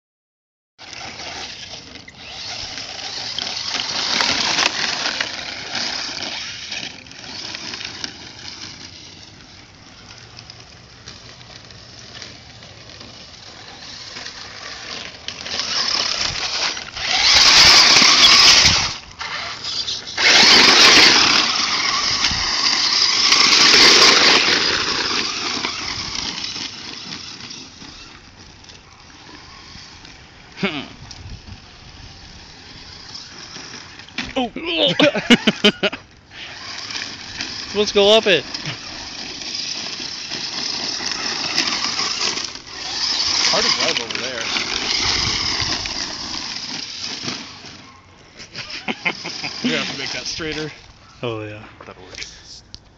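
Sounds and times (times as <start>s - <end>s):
radio-controlled car motors whining: 0.8s - 51.2s.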